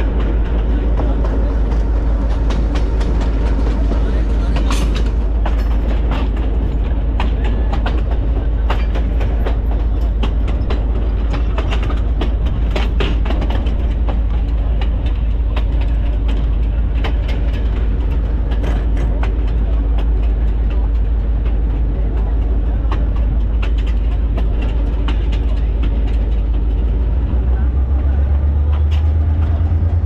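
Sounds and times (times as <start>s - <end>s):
diesel locomotive rumble: 0.0s - 30.0s
wheels clicking over rails: 0.0s - 30.0s.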